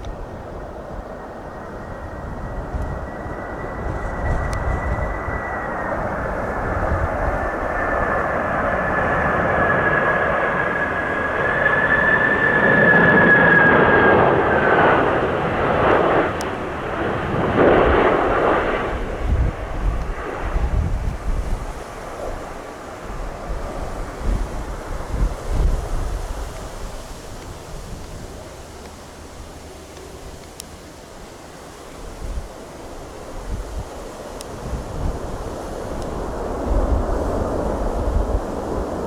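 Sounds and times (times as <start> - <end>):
wind buffeting microphone: 0.0 - 29.6, 32.0 - 39.0
jet engine whine: 0.0 - 39.0.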